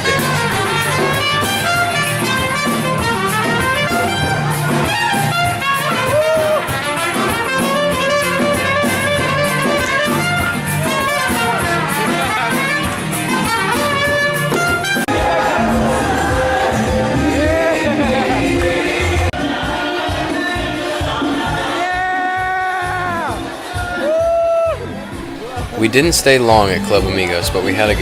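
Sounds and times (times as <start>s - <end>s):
dance music with brass: 0.0s - 22.0s, 25.1s - 28.0s.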